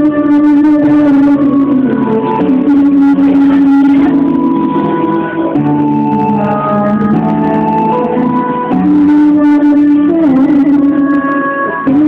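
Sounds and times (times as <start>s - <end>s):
backing music: 0.0s - 12.0s
girl singing into microphone: 0.0s - 12.0s.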